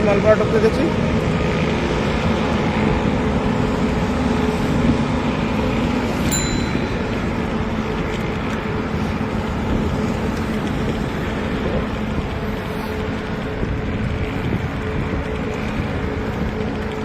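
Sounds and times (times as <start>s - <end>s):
road and traffic noise: 0.0s - 17.0s
wind on microphone: 1.0s - 17.0s.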